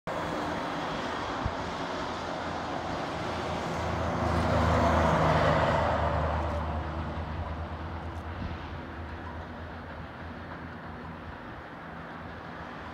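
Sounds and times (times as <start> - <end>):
road traffic: 0.1 - 12.9
truck engine passing: 0.2 - 11.3.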